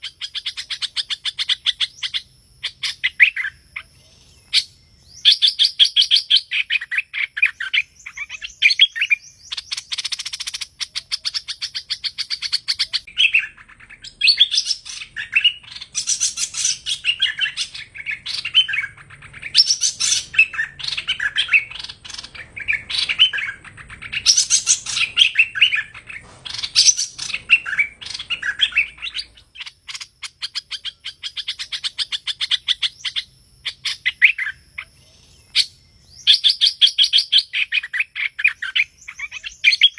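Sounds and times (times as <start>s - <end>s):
bird buzzy trill: 0.0s - 39.9s
bird chirping: 0.0s - 39.9s.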